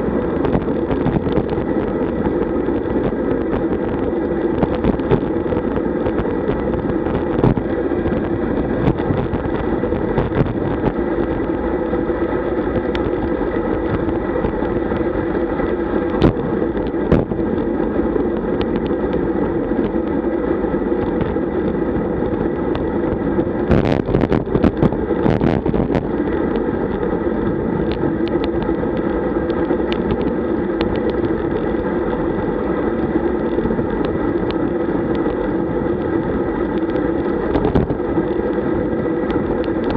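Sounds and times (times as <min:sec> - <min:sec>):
bicycle tyre noise: 0:00.0 - 0:39.9
muffled wind rush: 0:00.0 - 0:39.9.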